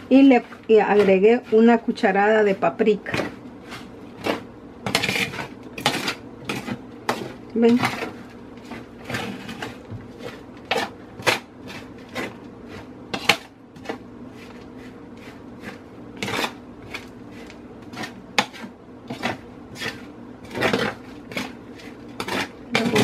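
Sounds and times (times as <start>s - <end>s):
metal spoon scraping a sheet pan: 0.0s - 23.0s.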